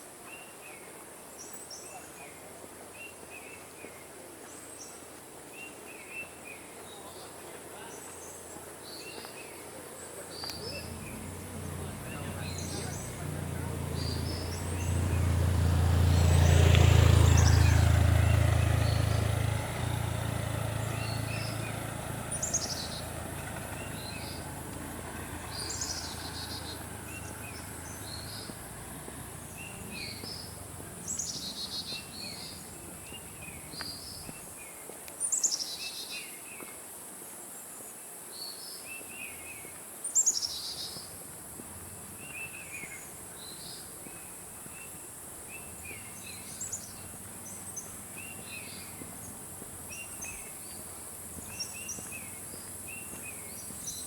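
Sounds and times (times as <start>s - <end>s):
forest birds calling: 3.0s - 36.8s, 37.8s - 54.0s.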